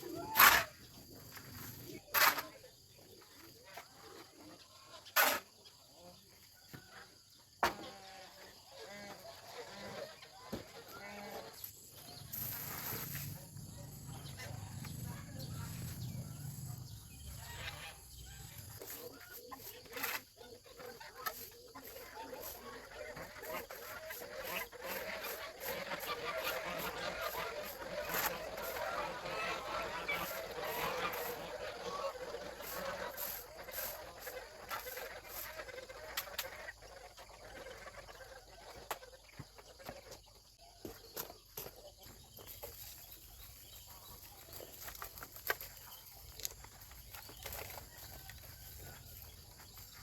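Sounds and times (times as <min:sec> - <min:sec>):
poultry calling: 0:00.0 - 0:02.4, 0:07.6 - 0:50.0.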